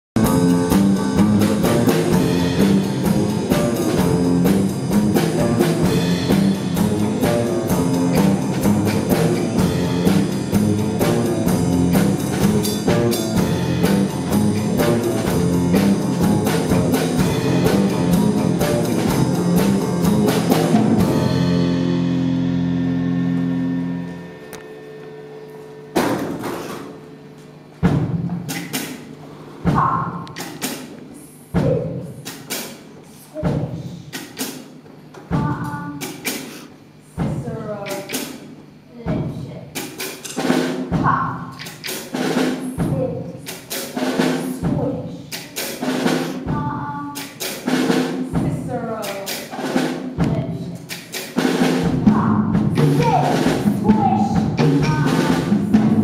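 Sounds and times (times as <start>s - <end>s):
live band with drums: 0.2s - 24.4s, 25.6s - 56.0s.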